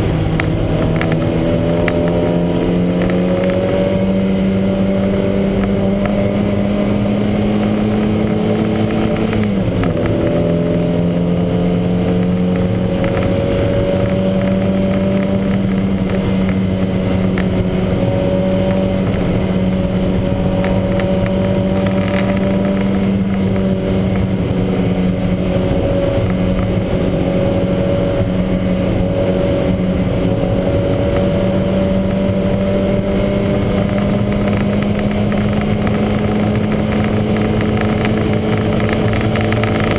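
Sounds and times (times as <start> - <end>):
race car engine revving hard: 0.0 - 39.9.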